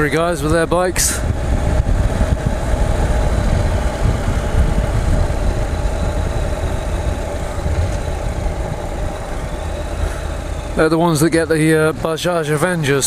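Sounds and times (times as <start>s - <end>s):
motorcycle engine running: 0.0s - 13.0s
road traffic: 0.0s - 13.0s.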